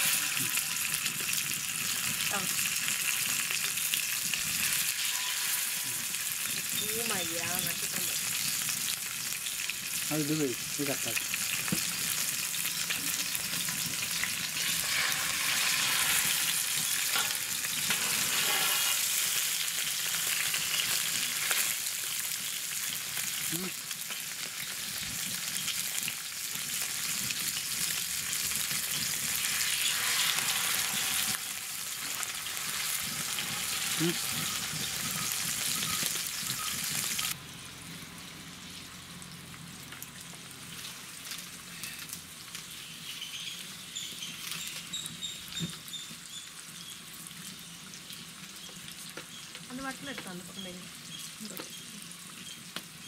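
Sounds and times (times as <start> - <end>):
fish sizzling in oil: 0.0 - 53.0.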